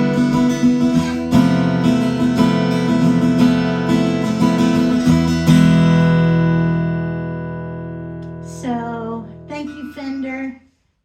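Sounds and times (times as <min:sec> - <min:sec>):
acoustic guitar playing: 0:00.0 - 0:10.8.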